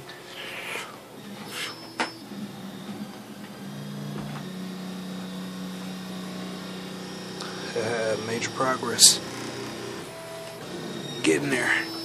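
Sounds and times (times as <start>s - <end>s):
printer stepper motors humming: 0.0s - 12.0s.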